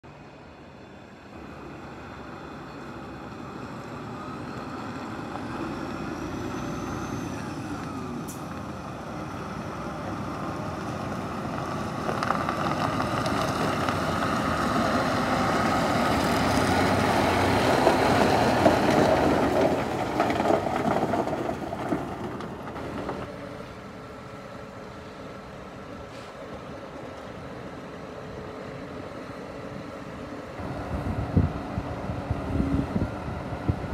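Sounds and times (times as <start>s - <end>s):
diesel truck driving past: 0.0s - 33.9s.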